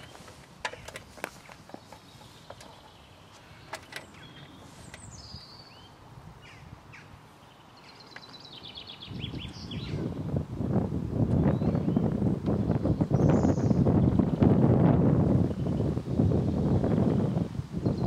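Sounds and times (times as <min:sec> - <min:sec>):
birds chirping: 0:00.0 - 0:10.4, 0:11.2 - 0:18.0.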